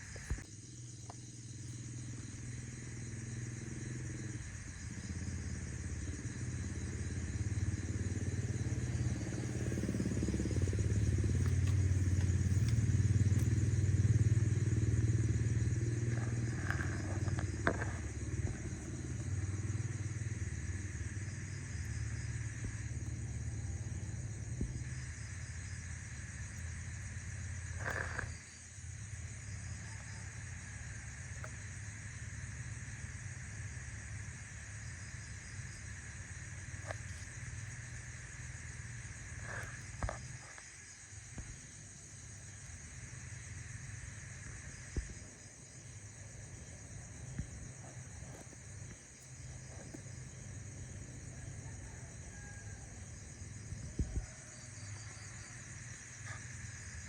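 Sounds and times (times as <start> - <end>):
distant vehicle engine rumble: 1.5 - 57.0.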